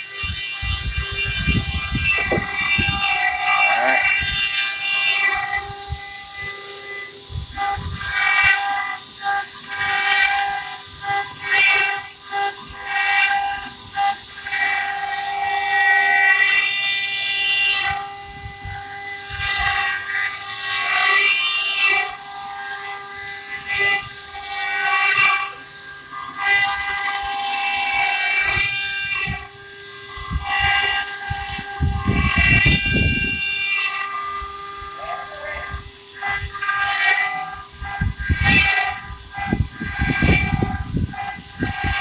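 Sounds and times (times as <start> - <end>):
bits screeching into stone: 0.0 - 42.0
spindle whine: 0.0 - 42.0.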